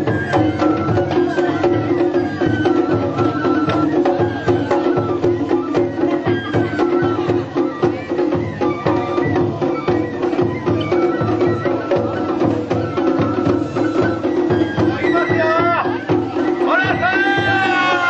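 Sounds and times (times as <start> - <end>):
pitched melody line: 0.0 - 18.0
taiko drums beating: 0.0 - 18.0.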